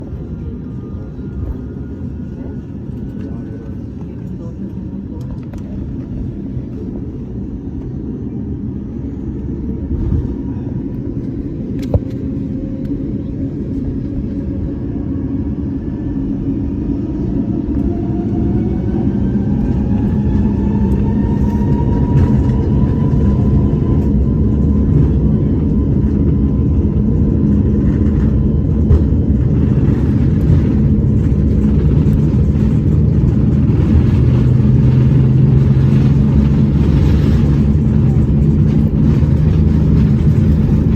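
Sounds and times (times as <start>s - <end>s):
low rumble of airliner: 0.0s - 40.9s.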